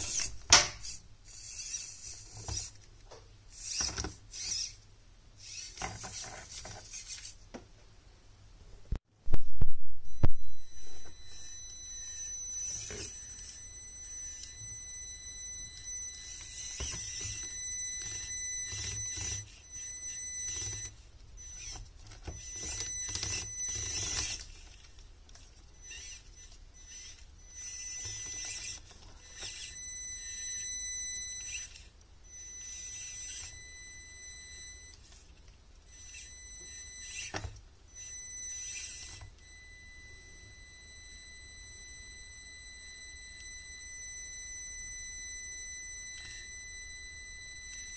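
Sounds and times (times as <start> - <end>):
small electric motor whining: 0.0 - 2.8, 3.5 - 4.8, 5.4 - 7.4, 10.7 - 47.9.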